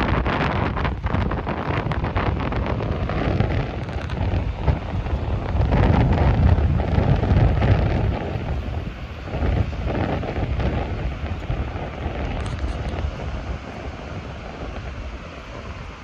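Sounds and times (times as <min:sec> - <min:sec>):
heavy surf rushing: 0:00.0 - 0:16.0
strong wind buffeting microphone: 0:00.0 - 0:16.0.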